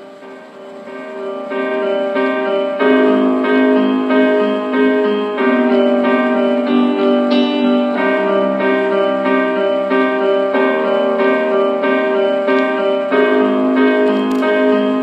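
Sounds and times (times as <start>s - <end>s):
piano chords from small speaker: 0.0s - 15.0s.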